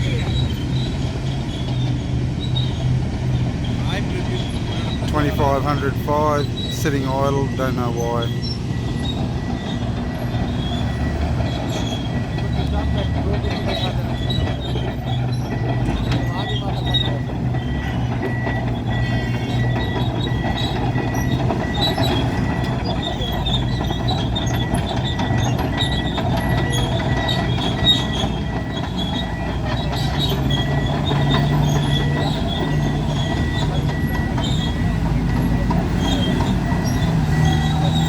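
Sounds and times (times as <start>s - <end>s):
heavy machinery droning: 0.0s - 38.0s
electronic warning alarm beeping: 3.9s - 38.0s.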